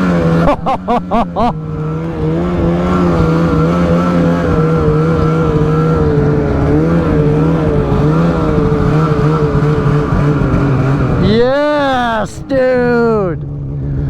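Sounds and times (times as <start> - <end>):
snowmobile engine running: 0.0 - 14.0.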